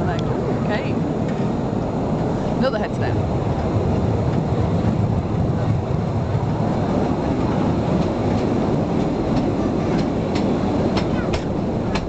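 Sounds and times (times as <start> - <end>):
train cars rumbling on rails: 0.0 - 12.0.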